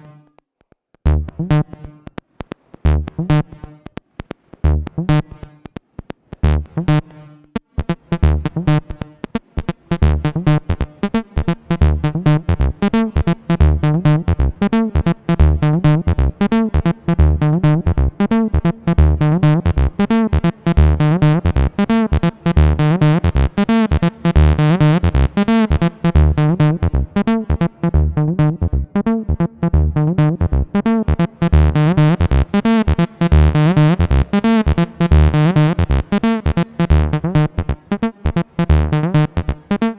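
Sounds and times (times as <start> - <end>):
synthesizer acid bassline: 4.7 - 5.5, 6.3 - 7.1, 7.8 - 39.9.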